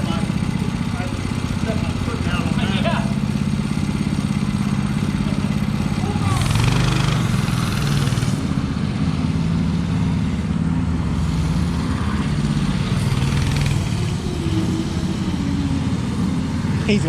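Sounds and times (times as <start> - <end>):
go-kart engine revving: 0.0 - 17.0.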